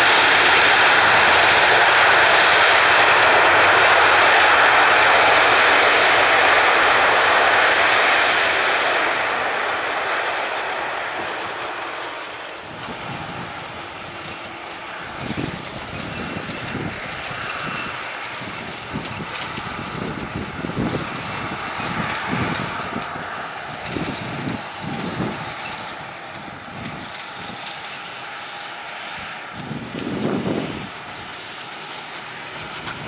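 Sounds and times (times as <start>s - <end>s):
jet engines running at low power: 0.0s - 33.0s.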